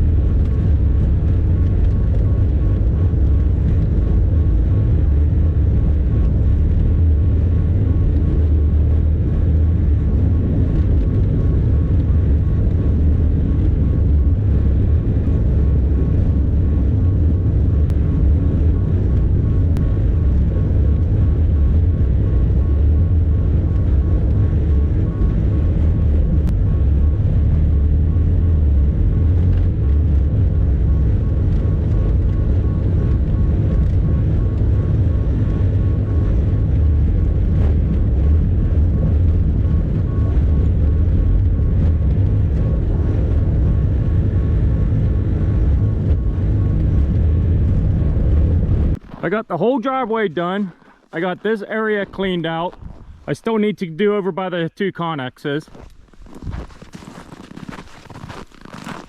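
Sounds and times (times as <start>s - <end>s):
faint high whine: 0.0s - 56.6s.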